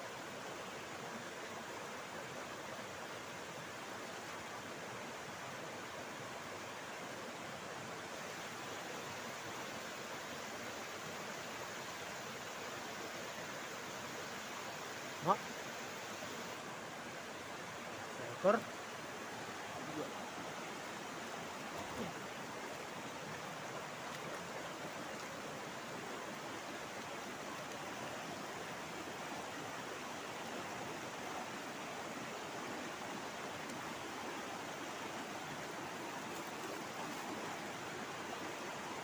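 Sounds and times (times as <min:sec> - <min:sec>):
river rushing over stones: 0:00.0 - 0:39.0.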